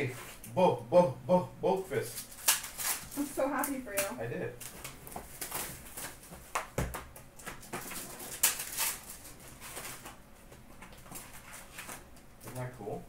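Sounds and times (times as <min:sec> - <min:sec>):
cards and wrappers rustling: 0:02.1 - 0:13.0.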